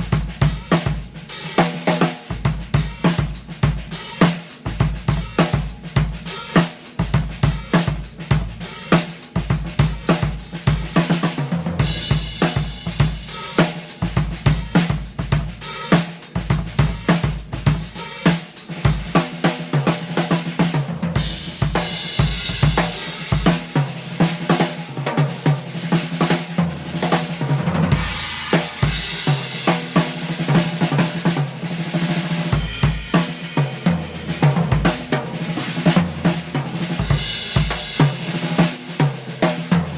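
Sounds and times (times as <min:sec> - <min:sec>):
bass drum: 0:00.0 - 0:04.0, 0:04.6 - 0:15.7, 0:16.3 - 0:18.1, 0:19.9 - 0:24.6, 0:26.6 - 0:38.7
hi-hat and cymbals: 0:00.0 - 0:39.9.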